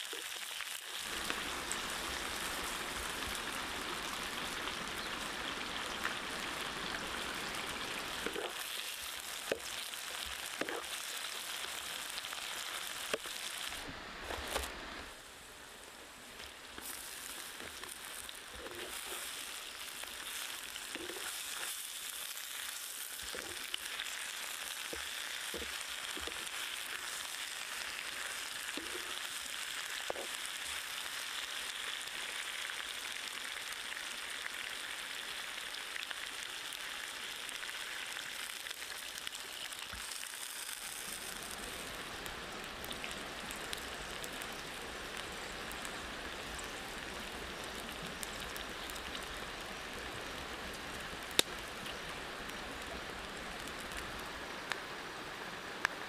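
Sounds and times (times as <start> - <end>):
meat frying sizzle: 0.0 - 56.0.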